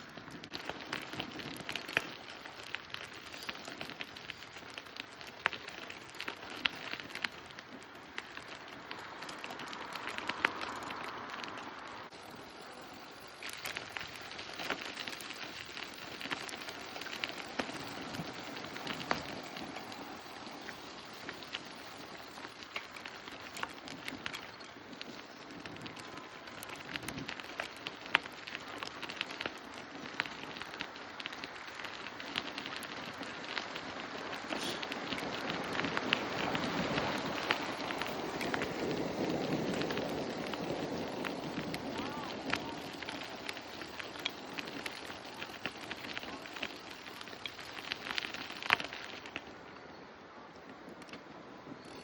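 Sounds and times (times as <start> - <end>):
sharp crackling ticks: 0.0 - 49.5
wind and rolling bicycle tyres: 0.0 - 52.0.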